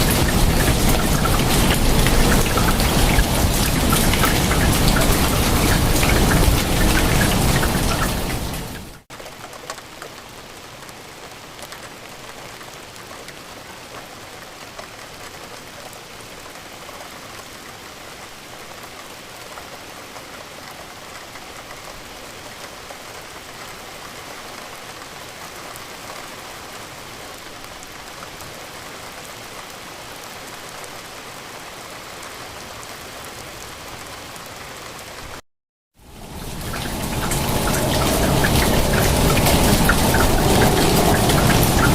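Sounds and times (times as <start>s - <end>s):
steady rain falling: 0.0s - 35.4s, 36.0s - 41.9s.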